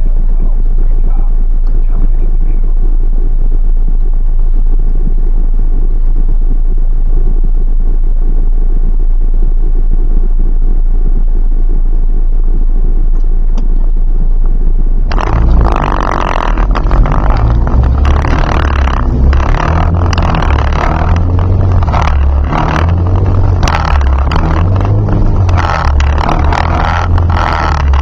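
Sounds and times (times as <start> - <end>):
car engine idling and driving: 0.0 - 28.0
rushing noise: 0.0 - 28.0.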